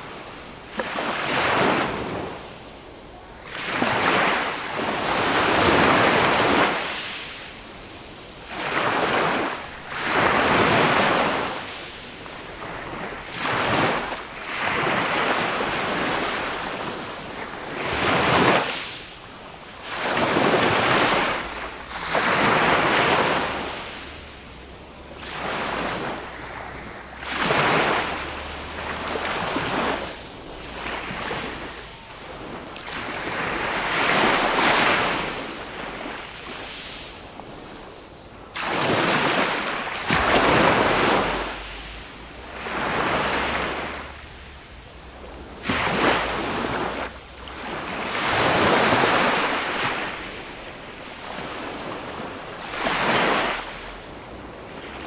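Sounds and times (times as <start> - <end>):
small waves washing up beach: 0.0 - 55.0.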